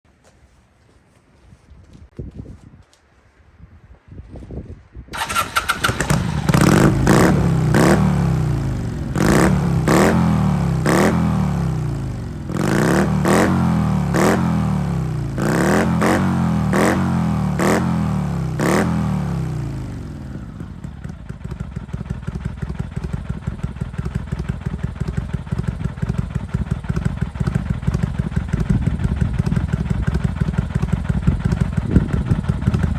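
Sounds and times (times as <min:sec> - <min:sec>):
motorcycle engine revving and idling: 0:05.2 - 0:32.9.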